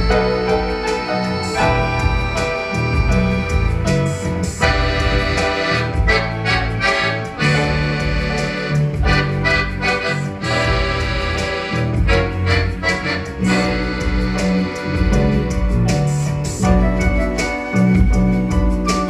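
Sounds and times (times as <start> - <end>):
piano accordion melody: 0.0 - 19.0.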